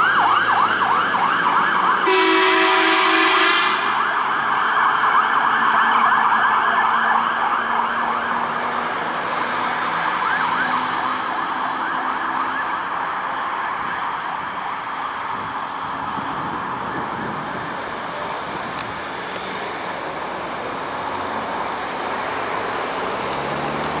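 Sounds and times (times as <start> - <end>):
fire engine siren yelping: 0.0 - 23.9.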